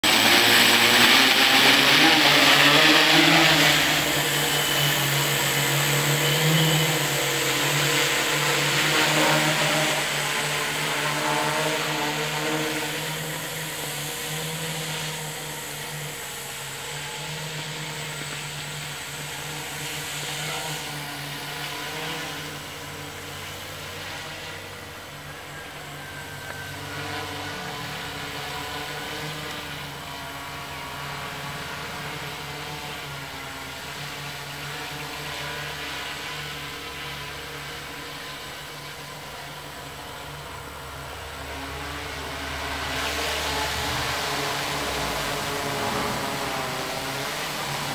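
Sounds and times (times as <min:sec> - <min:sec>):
drone propellers buzzing: 0:00.0 - 0:47.9.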